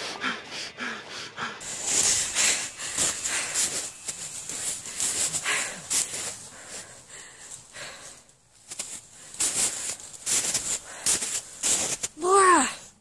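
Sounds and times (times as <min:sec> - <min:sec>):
person breathing hard: 0:00.0 - 0:12.0
dry grass rustling: 0:01.6 - 0:12.2.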